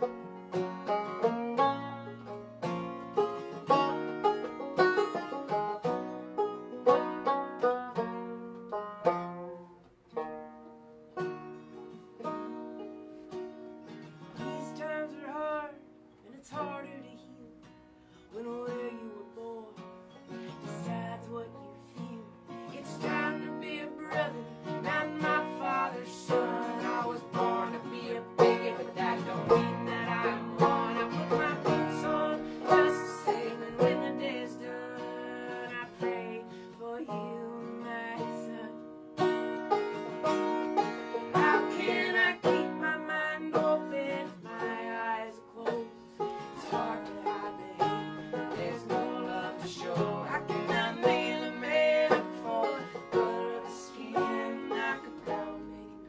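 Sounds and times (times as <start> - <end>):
acoustic guitar strumming: 0.0 - 56.0
banjo picking: 0.0 - 56.0.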